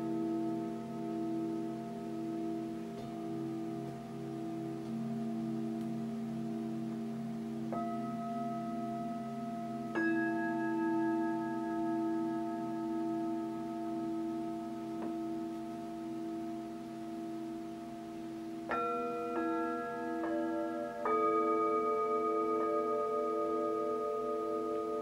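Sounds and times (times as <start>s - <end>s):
singing bowls ringing: 0.0s - 25.0s.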